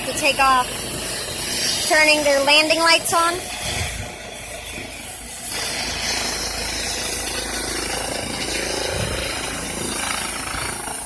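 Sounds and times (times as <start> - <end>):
helicopter turbine and rotor: 0.0 - 11.0.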